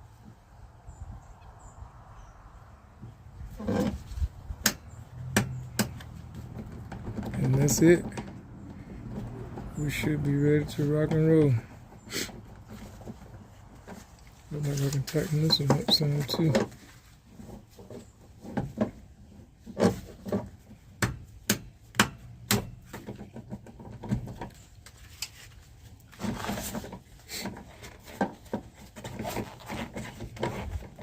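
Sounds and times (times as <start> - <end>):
rubbing and scraping: 3.0 - 21.5, 22.2 - 31.0.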